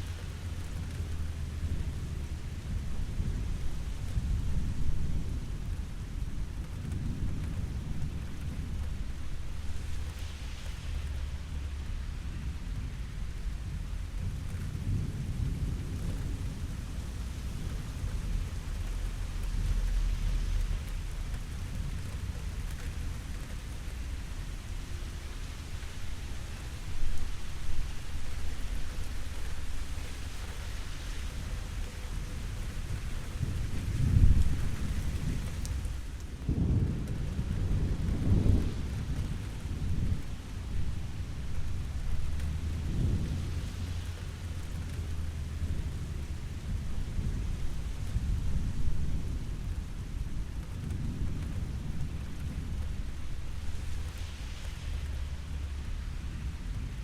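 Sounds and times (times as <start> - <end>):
steady rainfall: 0.0 - 57.0
thunder rumbling: 0.0 - 57.0.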